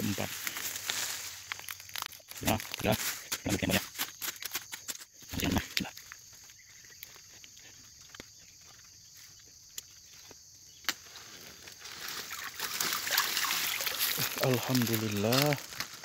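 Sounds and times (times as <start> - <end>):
rustling and crackling of fronds: 0.0 - 16.0.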